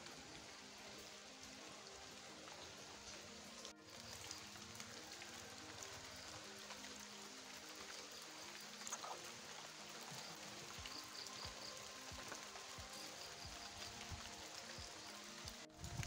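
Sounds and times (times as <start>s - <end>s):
light rain falling: 0.0s - 16.0s
soft music: 0.0s - 16.0s.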